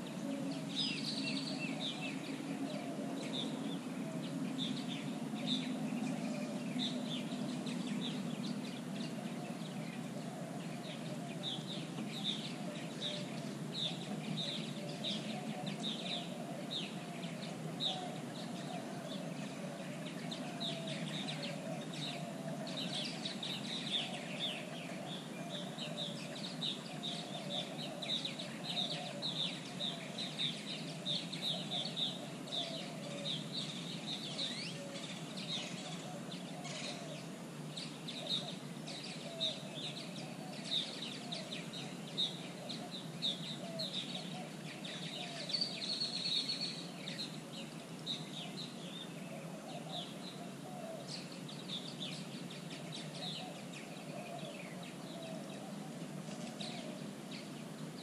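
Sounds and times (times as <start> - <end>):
birds chirping: 0.0 - 58.0
lower wavering birdcall: 0.0 - 58.0
steady low background noise: 0.0 - 58.0.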